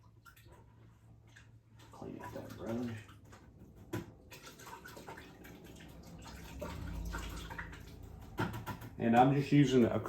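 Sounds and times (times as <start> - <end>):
water sloshing and dripping: 0.0 - 10.0.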